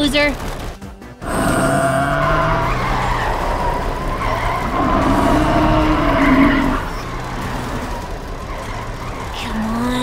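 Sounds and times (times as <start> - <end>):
bulldozer engine straining: 0.0 - 10.0.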